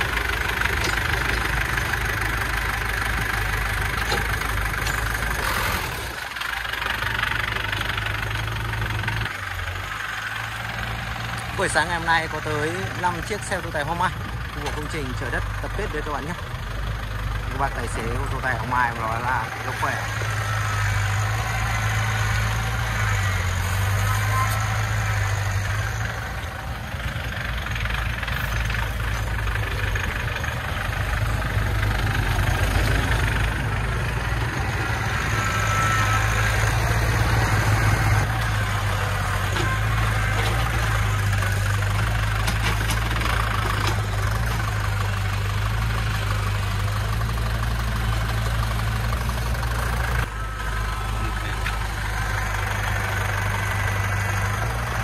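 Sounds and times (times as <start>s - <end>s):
diesel truck engine droning: 0.0s - 55.0s.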